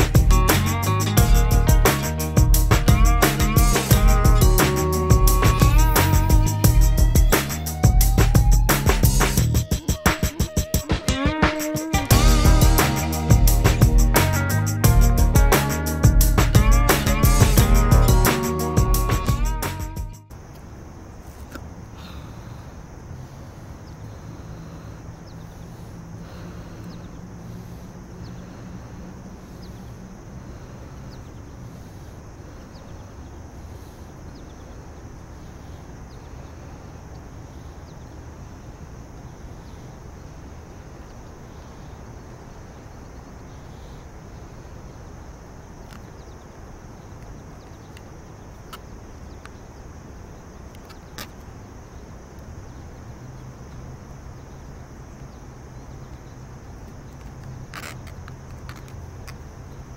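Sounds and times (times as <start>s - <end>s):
distant traffic rumble: 0.0s - 10.0s, 12.0s - 59.9s
insects chirring: 0.0s - 59.9s.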